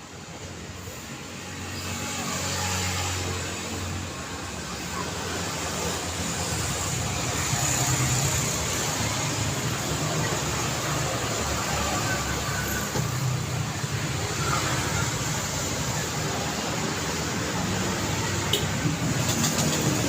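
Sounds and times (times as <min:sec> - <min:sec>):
car engines and tyre noise: 0:00.0 - 0:20.0.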